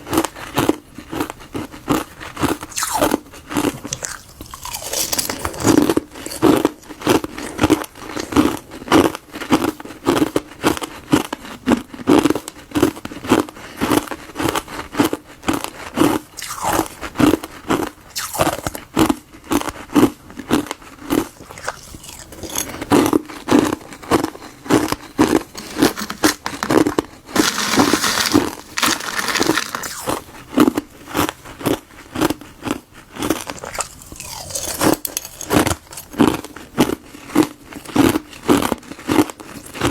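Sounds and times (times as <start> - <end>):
ice being bitten and crunched: 0.1 - 9.7, 15.9 - 39.9.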